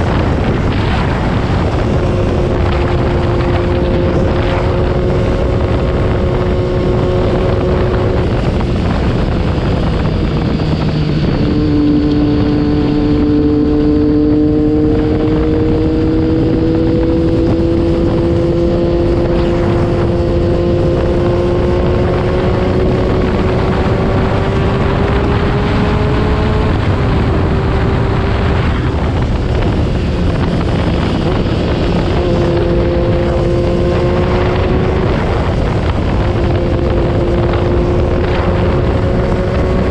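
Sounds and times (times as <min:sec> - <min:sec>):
motorcycle engine revving: 0:00.0 - 0:39.9
wind on microphone: 0:00.0 - 0:39.9.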